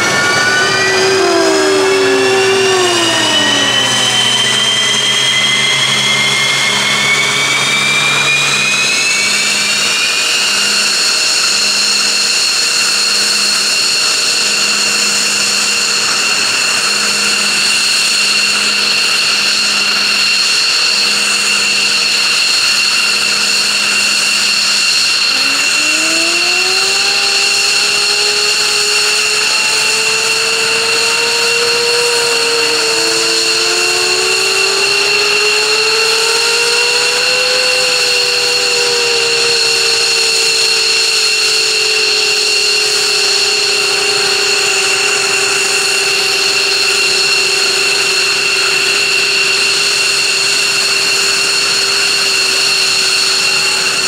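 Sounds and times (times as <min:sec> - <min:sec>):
jet engine start whine: 0:00.0 - 0:54.0
lower rising engine whine: 0:00.0 - 0:54.0.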